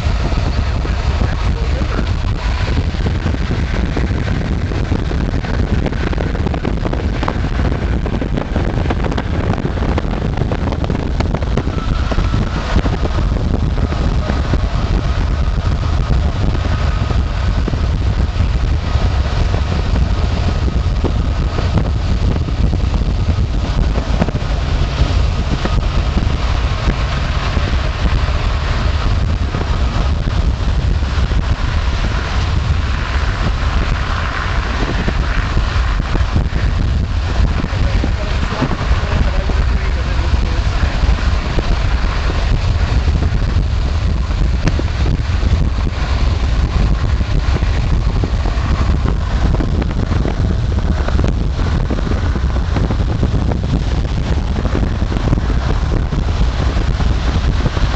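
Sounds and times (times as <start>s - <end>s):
car tyre and engine rumble: 0.0s - 57.9s
wind noise: 0.0s - 57.9s.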